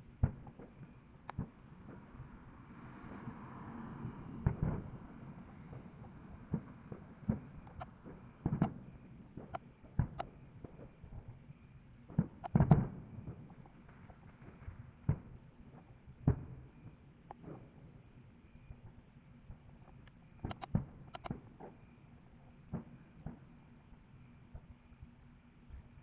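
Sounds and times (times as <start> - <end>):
distant fireworks bangs and pops: 0.1 - 26.0.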